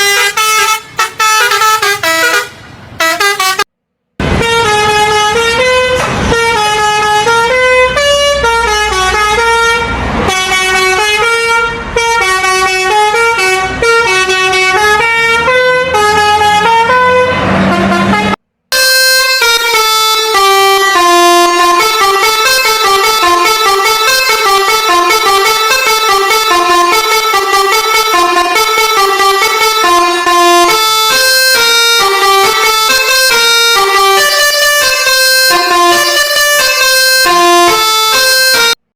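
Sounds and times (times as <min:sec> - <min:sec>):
musical bus horn melody: 0:00.0 - 0:38.9.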